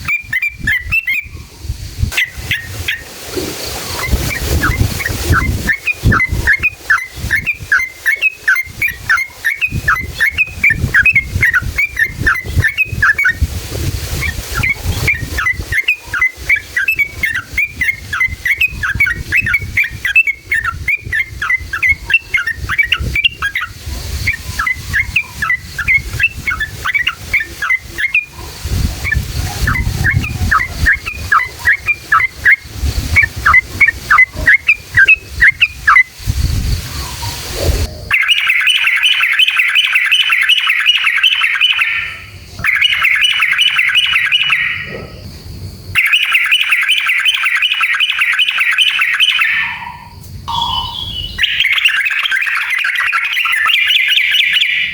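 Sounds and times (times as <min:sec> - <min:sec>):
bird singing rapid sharp chirps: 0:02.2 - 0:03.1, 0:04.0 - 0:13.5, 0:14.2 - 0:45.2, 0:46.0 - 0:54.9.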